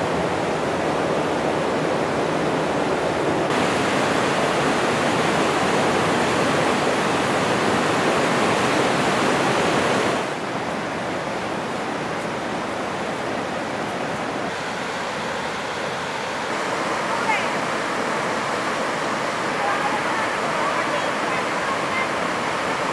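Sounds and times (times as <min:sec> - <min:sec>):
river rapids rushing: 0:00.0 - 0:22.9.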